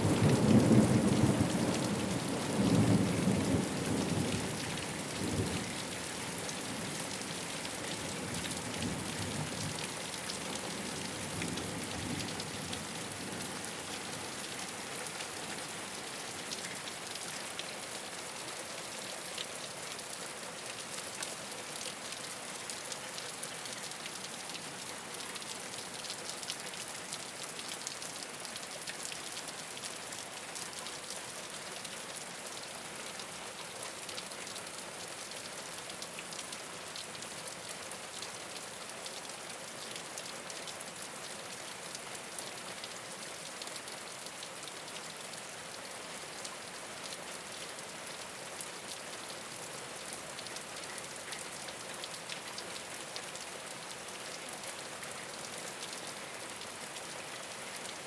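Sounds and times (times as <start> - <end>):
rain on a rooftop: 0.0 - 58.0.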